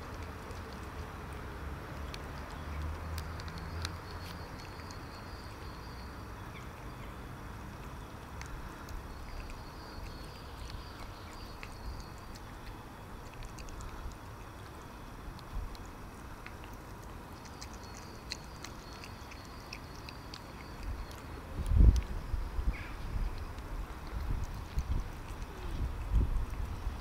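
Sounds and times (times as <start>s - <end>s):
cat chewing food: 0.0s - 27.0s.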